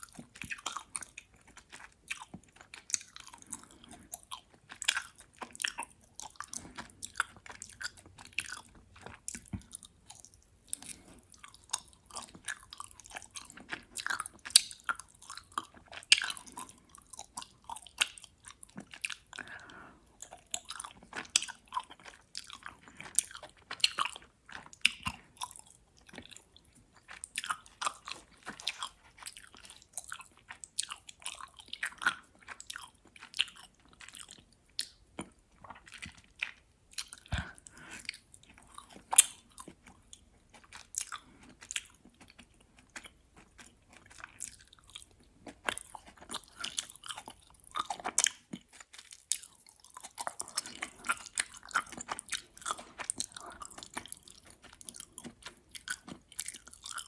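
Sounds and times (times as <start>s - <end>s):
chewing gummy candy: 0.0s - 57.0s.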